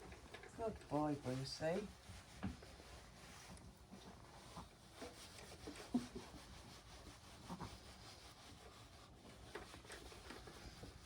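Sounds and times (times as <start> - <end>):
towel rubbing dog's coat: 0.9 - 11.0.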